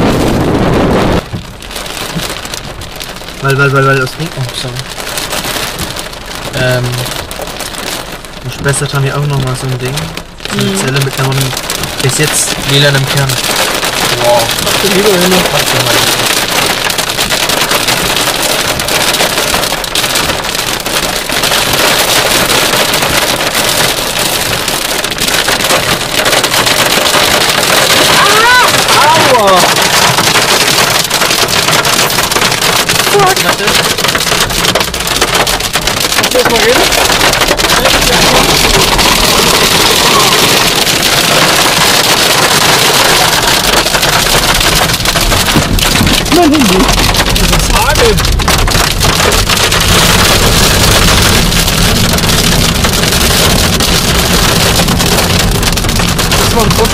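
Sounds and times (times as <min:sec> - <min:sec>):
heavy rain pelting down: 0:00.0 - 0:56.9.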